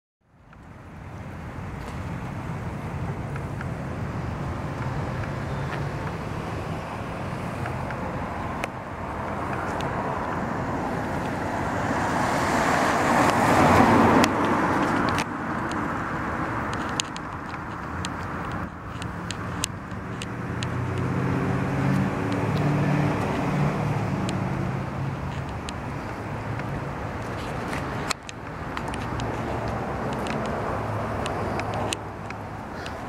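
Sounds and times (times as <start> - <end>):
road traffic: 0.2 - 33.0
vehicle passing: 1.5 - 33.0.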